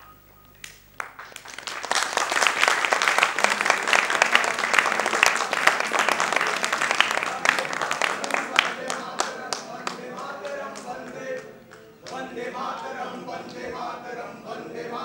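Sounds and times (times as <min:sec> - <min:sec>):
audience applauding: 0:00.6 - 0:13.8.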